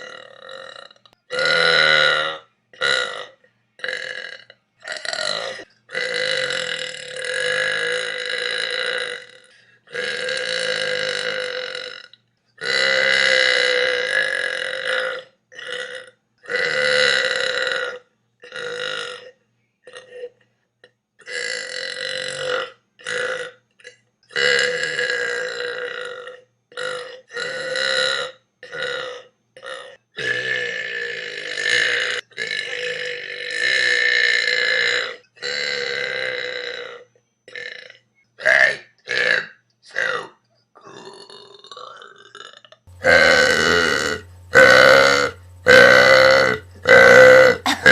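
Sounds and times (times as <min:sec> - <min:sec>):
person burping: 0:00.0 - 0:38.0, 0:40.8 - 0:47.9.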